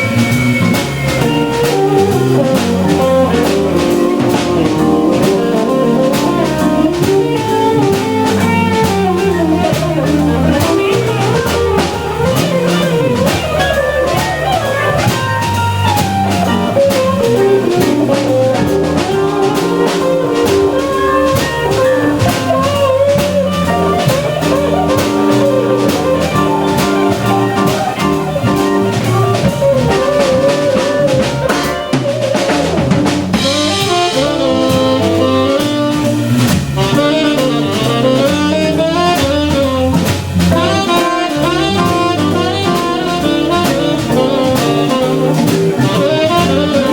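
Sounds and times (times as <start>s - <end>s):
cymbals: 0.0s - 46.9s
organ jazz band playing: 0.0s - 46.9s
tenor saxophone: 0.0s - 46.9s.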